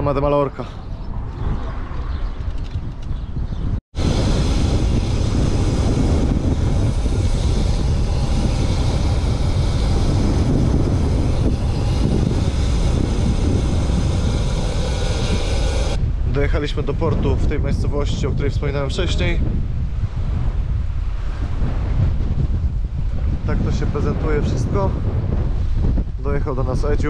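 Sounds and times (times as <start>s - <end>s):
wind rumble on microphone: 0.0s - 27.0s.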